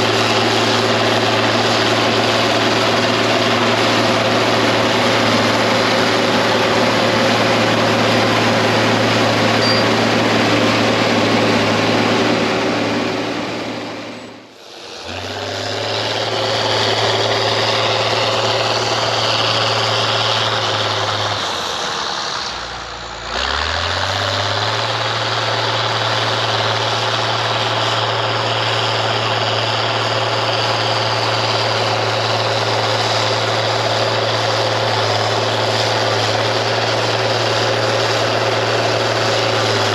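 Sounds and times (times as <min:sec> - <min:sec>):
diesel crawler dozer engine running: 0:00.0 - 0:39.9.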